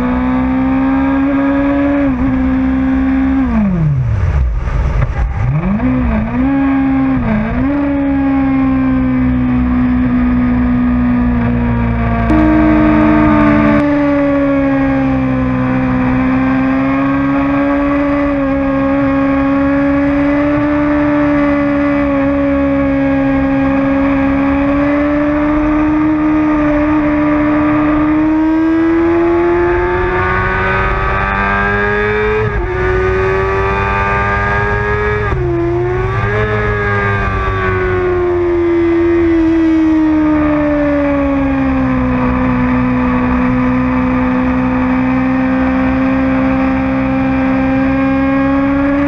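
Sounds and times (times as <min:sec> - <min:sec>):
motorcycle engine at high revs: 0:00.0 - 0:03.9, 0:05.3 - 0:49.0.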